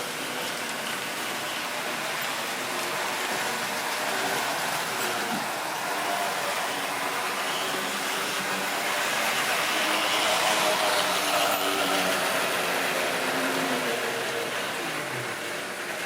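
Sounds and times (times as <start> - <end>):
wheels rattling on rails: 0.0 - 16.0
electric motor whine: 0.2 - 16.0.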